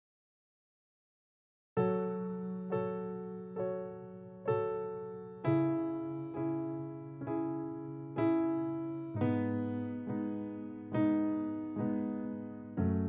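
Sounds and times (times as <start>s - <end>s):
slow piano chords: 1.8s - 13.0s.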